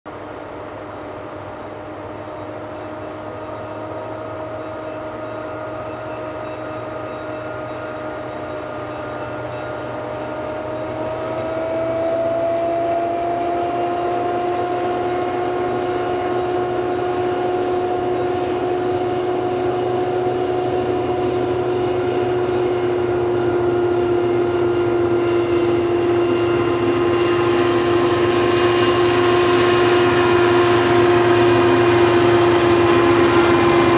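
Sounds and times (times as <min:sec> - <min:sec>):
diesel locomotive engine drone: 0:00.1 - 0:33.9
rumble of hopper cars rolling: 0:00.1 - 0:33.9.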